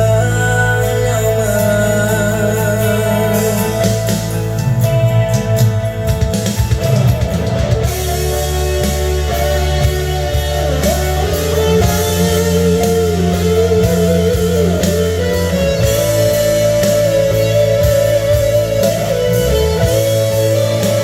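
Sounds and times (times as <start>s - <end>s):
bass and drums: 0.0s - 21.0s
lead guitar melody: 0.0s - 21.0s.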